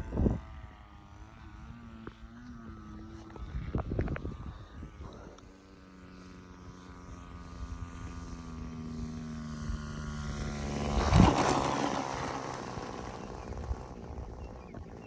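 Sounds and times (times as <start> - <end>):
model plane engine passing: 0.0 - 15.0.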